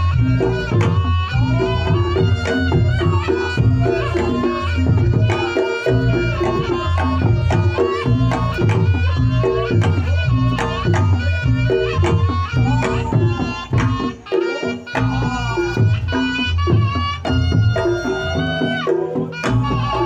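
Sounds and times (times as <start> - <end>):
hand drum playing: 0.0 - 20.0
reedy shawm melody: 0.0 - 20.0.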